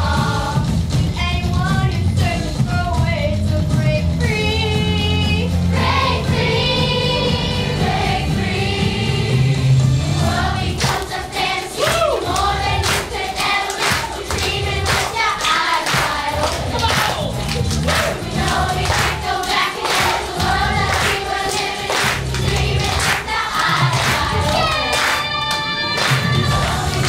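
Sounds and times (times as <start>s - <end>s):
group of voices singing: 0.0s - 1.1s, 4.3s - 27.0s
backing music: 0.0s - 27.0s.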